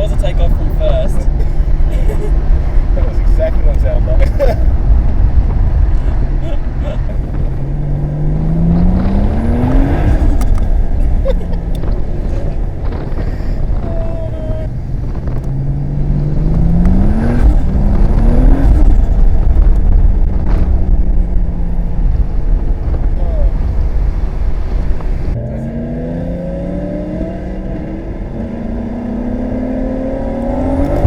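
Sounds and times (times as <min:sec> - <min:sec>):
car engine accelerating: 0:00.0 - 0:31.0
low engine rumble: 0:00.0 - 0:31.0.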